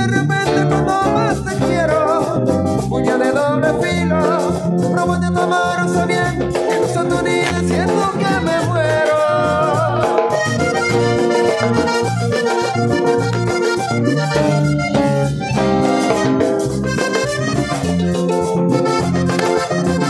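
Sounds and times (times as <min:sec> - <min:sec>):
button accordion melody: 0:00.0 - 0:20.0
electric bass: 0:00.0 - 0:20.0
percussion beat: 0:00.0 - 0:20.0.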